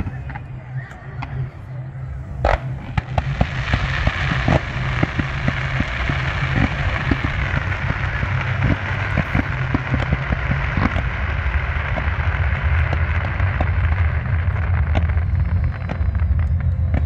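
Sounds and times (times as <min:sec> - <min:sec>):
firework bang: 0:02.4 - 0:17.0
firework hissing: 0:02.4 - 0:17.0
firework pops: 0:02.4 - 0:17.0.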